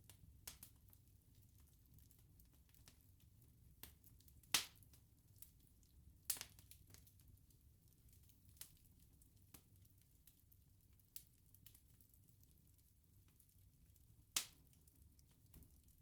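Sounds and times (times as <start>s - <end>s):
bonfire crackling and popping: 0.0s - 16.0s
low rumble of burning: 0.0s - 16.0s.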